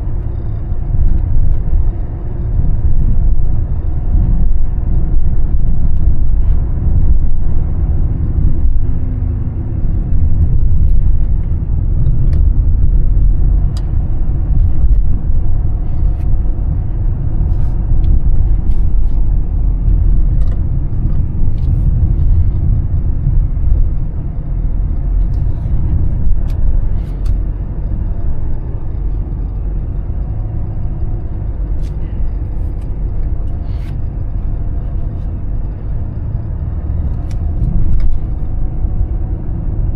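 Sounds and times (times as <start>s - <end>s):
diesel car engine rumbling: 0.0s - 39.9s
road noise: 0.0s - 39.9s.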